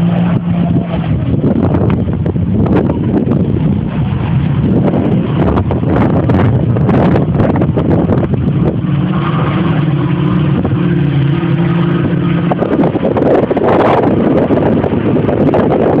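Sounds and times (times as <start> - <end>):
jet ski engine running: 0.0 - 16.0
wind rumbling on microphone: 0.0 - 16.0.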